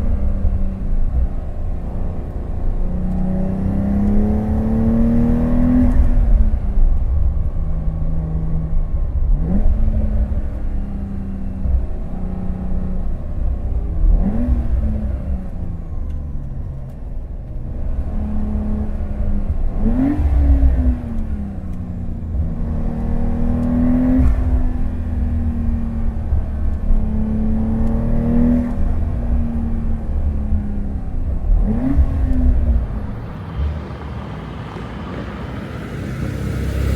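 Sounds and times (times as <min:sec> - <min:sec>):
car engine revving in a tunnel: 0:00.0 - 0:36.9.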